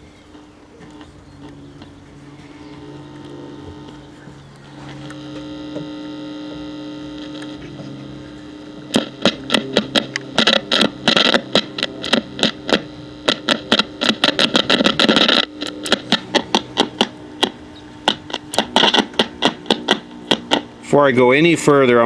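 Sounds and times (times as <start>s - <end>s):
mains hum: 0.0s - 22.0s
speaker crackling and popping: 0.0s - 22.0s.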